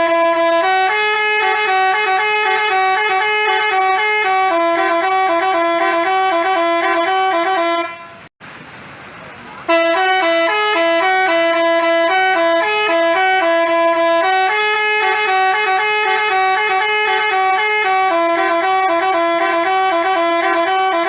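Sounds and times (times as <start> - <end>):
multi-tone horn playing a tune: 0.0 - 8.3, 9.7 - 21.0.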